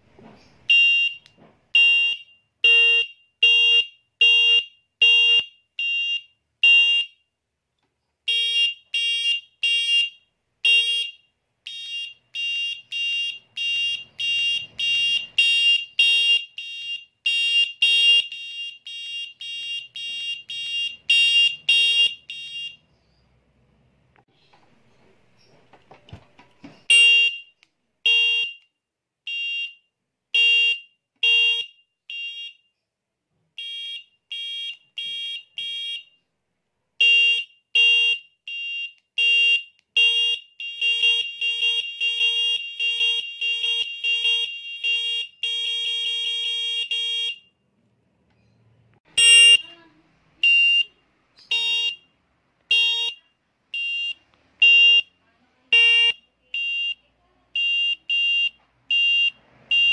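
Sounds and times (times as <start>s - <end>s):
electronic bicycle horn beeping: 0.7s - 7.3s, 8.3s - 22.8s, 26.9s - 28.7s, 29.3s - 29.8s, 30.4s - 32.6s, 33.6s - 36.2s, 37.0s - 47.5s, 49.1s - 52.1s, 52.7s - 55.1s, 55.7s - 59.9s.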